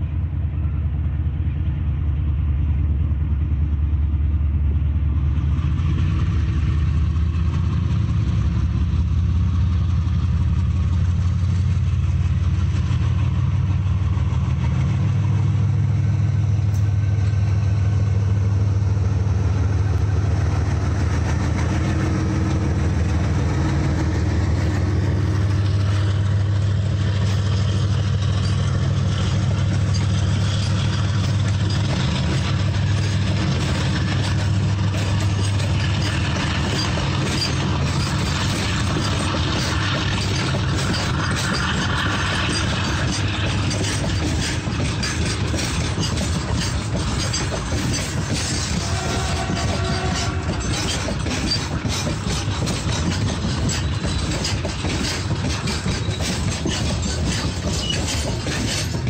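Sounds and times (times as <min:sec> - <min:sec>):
diesel locomotive engines droning: 0:00.0 - 0:59.0
train wheels clattering on rails: 0:00.0 - 0:59.0.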